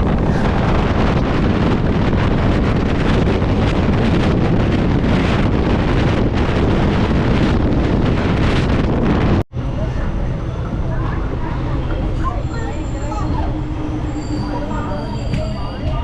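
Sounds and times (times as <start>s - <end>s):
train rumbling at speed: 0.0s - 16.0s
wind buffeting microphone: 0.0s - 16.0s.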